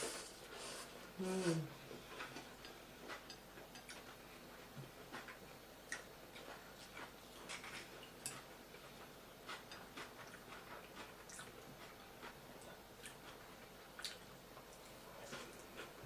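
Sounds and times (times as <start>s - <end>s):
person chewing food: 1.8s - 16.0s.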